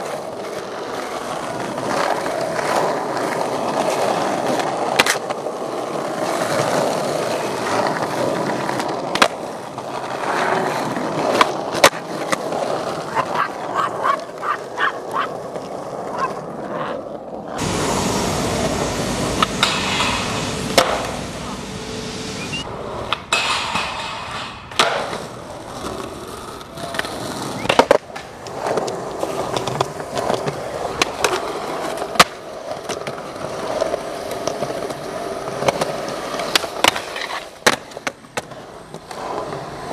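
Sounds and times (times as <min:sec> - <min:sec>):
skateboard clacking: 0:00.0 - 0:21.8, 0:22.4 - 0:39.9
skateboard wheels rolling on concrete: 0:00.0 - 0:39.9.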